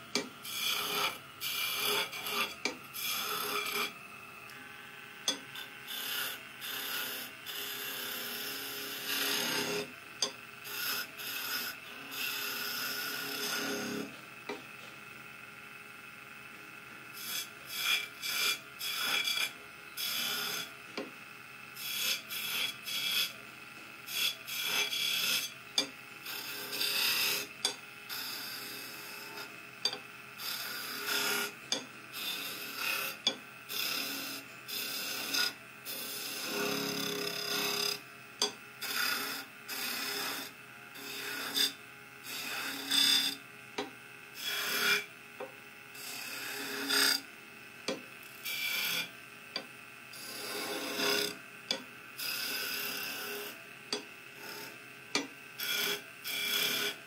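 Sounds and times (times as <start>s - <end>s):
chisel scraping spinning wood: 0.0s - 4.0s, 5.3s - 14.6s, 17.1s - 21.1s, 21.8s - 23.4s, 24.1s - 47.3s, 47.9s - 57.0s
wood lathe whining: 0.0s - 57.0s.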